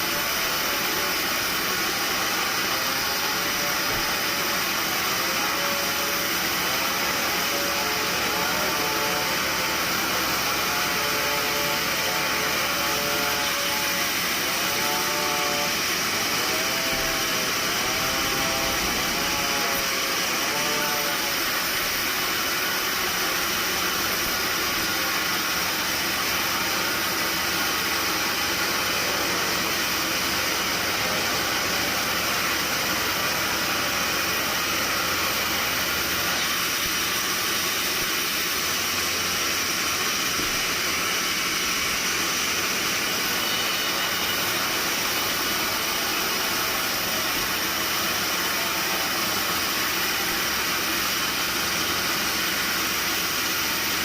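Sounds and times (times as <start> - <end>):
sawmill machinery hiss: 0.0 - 54.0.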